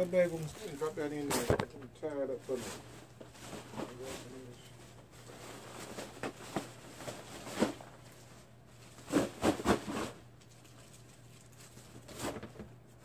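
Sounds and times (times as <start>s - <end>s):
knocks and rustles of handling: 0.0s - 13.0s.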